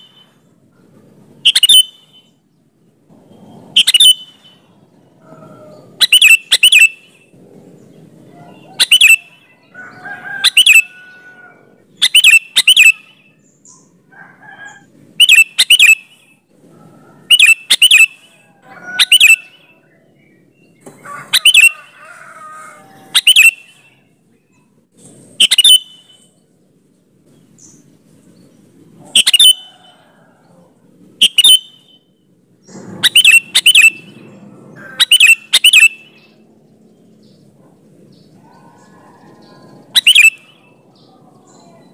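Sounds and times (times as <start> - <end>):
bird singing sharp calls: 0.0 - 14.0, 14.7 - 41.9.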